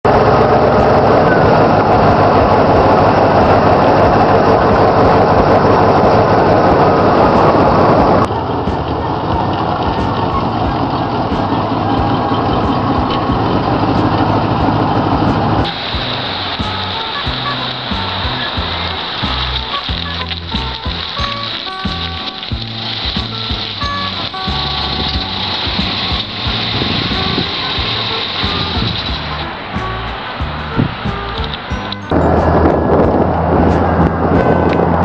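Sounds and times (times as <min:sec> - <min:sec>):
car engine running: 0:00.0 - 0:35.0
music: 0:00.1 - 0:35.0.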